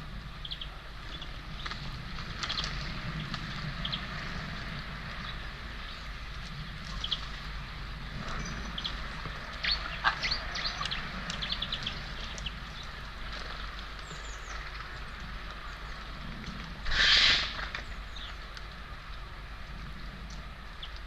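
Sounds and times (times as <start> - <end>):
outdoor background noise: 0.0 - 21.0
small birds chirping: 0.3 - 18.7.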